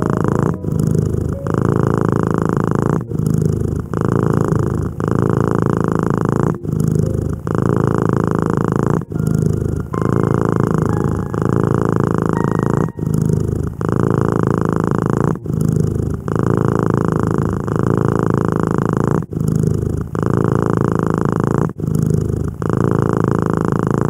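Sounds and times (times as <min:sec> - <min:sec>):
cat purring loudly: 0:00.0 - 0:24.0.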